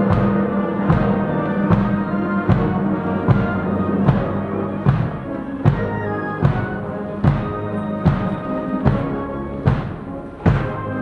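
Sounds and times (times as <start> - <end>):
military band funeral march: 0.0 - 11.0
steady drum strokes: 0.0 - 11.0.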